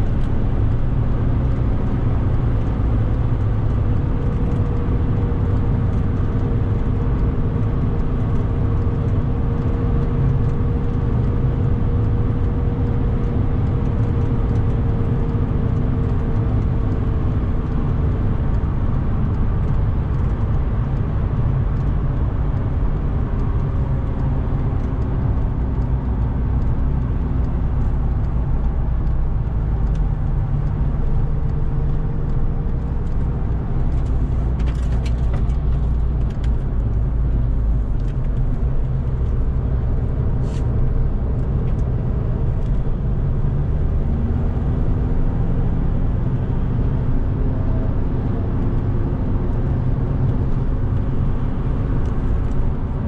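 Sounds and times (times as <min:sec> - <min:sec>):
diesel car engine running: 0:00.0 - 0:53.0
road and tyre noise: 0:00.0 - 0:53.0.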